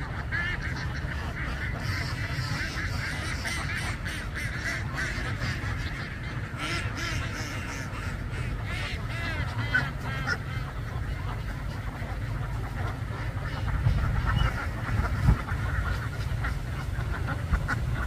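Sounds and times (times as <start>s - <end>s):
ducks quacking: 0.0s - 18.0s
steady low rumble: 0.0s - 18.0s.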